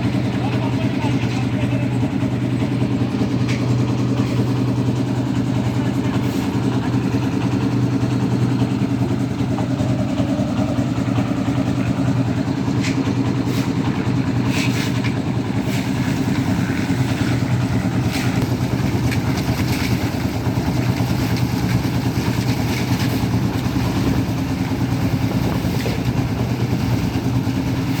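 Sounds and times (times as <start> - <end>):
concrete mixer engine running: 0.0 - 28.0.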